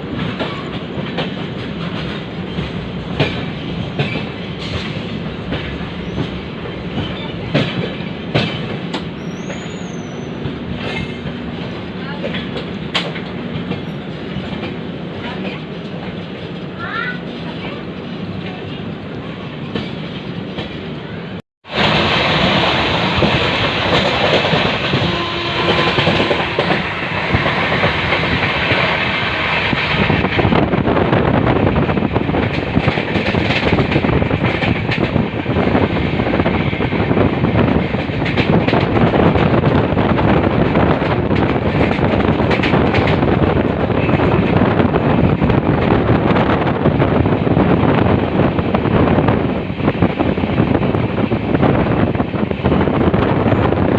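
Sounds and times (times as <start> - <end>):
rail clicks: 0.0 - 53.9
train wheels rumbling on rails: 0.0 - 53.9.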